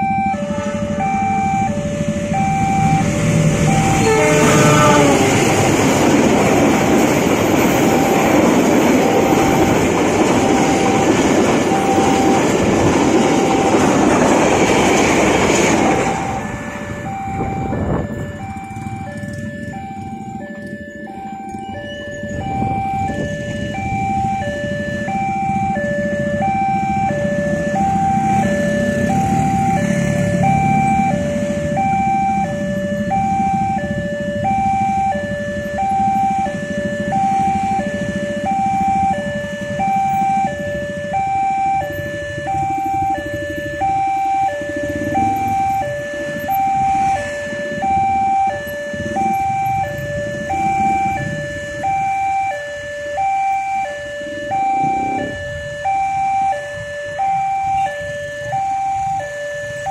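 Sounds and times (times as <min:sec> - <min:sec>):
two-tone warning alarm: 0:00.0 - 0:59.9.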